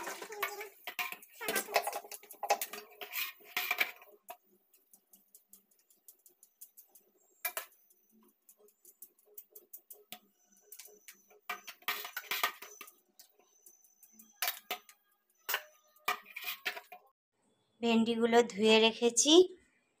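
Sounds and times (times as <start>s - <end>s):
metal bowls clinking and knocking: 0.0s - 17.1s.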